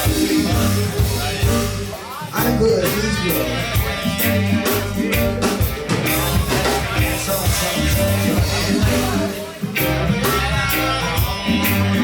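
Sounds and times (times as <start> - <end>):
reggae band playing live: 0.0 - 12.0.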